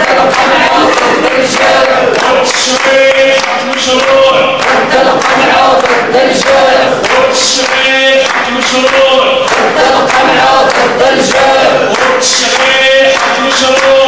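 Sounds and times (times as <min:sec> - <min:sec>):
crowd chanting in unison: 0:00.0 - 0:14.0
hands clapping in time: 0:00.0 - 0:14.0.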